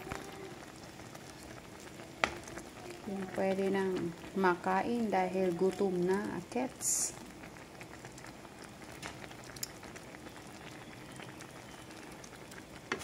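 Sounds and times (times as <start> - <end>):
food simmering in a pan: 0.0 - 13.0.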